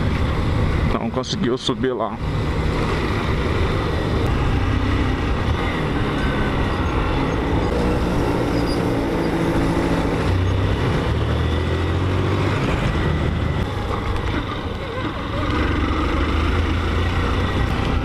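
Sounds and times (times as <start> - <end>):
motorcycle engine running: 2.2 - 18.0.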